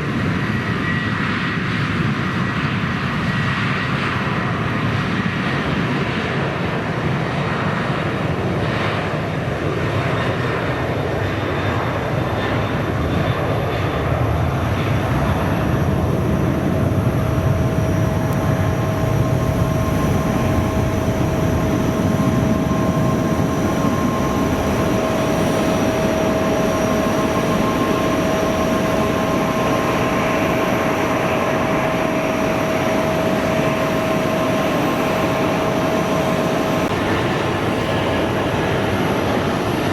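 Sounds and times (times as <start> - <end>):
airliner engines running: 0.0 - 39.9
steady engine whine: 0.0 - 39.9.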